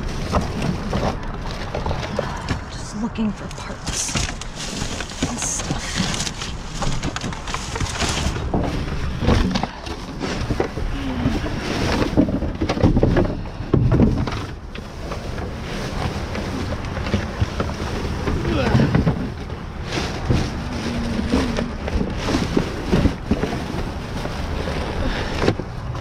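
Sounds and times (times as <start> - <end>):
plastic bags rustling: 0.0 - 26.0
cardboard boxes knocked about: 3.7 - 26.0.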